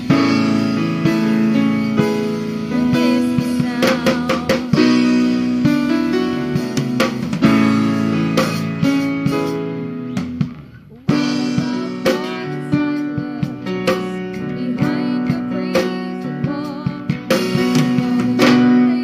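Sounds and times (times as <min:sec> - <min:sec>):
band playing: 0:00.0 - 0:19.0.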